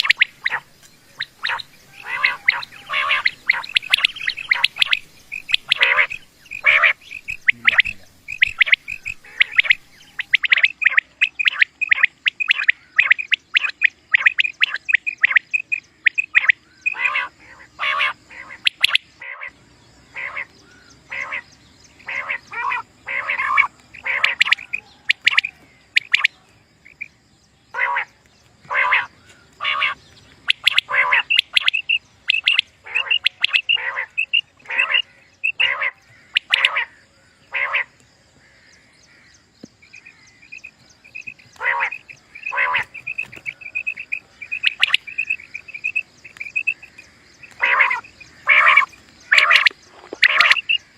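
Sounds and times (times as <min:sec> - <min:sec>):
quail calling: 0:00.0 - 0:27.1, 0:27.7 - 0:39.2, 0:39.9 - 0:50.9.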